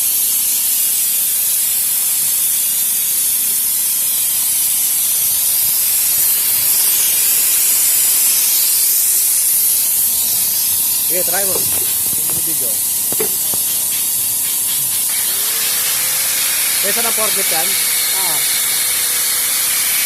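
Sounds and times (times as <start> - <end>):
paint spray gun hissing: 0.0 - 20.0.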